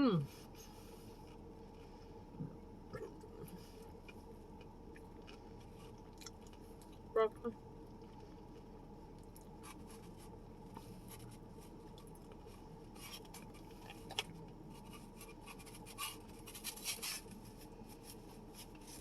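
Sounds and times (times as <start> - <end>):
chewing and crunching: 0.6 - 19.0.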